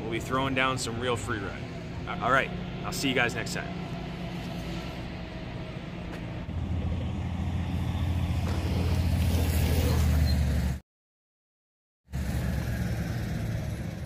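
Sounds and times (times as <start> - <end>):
vehicle engine running: 0.2 - 10.8, 12.1 - 14.0.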